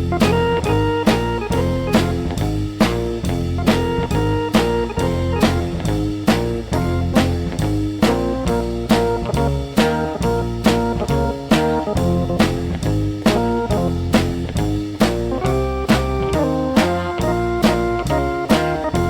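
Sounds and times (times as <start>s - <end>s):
blues guitar: 0.0s - 19.0s
drum kit steady beat: 0.0s - 19.0s.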